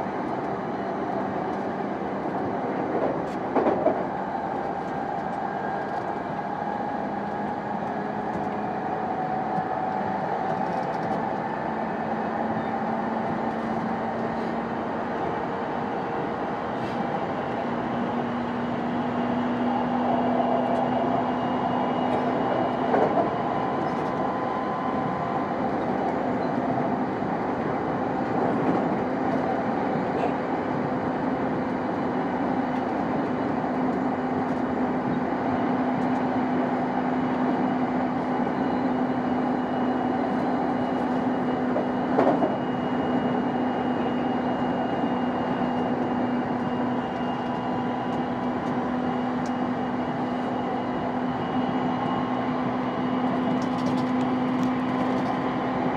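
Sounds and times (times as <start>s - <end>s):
electric train running: 0.0s - 55.9s.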